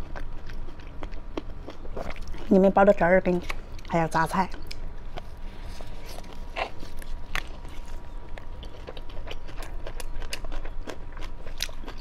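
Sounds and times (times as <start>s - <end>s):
chewing and biting: 0.0s - 2.6s, 4.5s - 12.0s.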